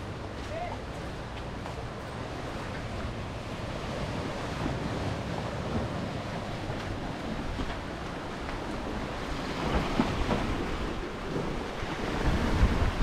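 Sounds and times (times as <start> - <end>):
sea waves washing onto shore: 0.0 - 13.0
wind buffeting microphone: 0.0 - 13.0.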